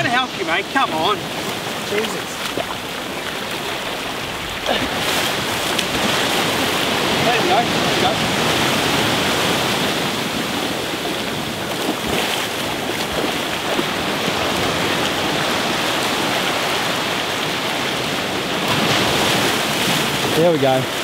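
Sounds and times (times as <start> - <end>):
surf washing over sand: 0.0 - 21.0.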